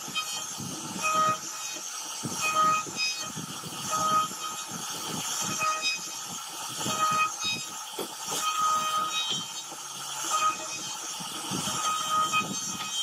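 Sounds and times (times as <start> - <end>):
router bit carving wood: 0.0 - 13.0.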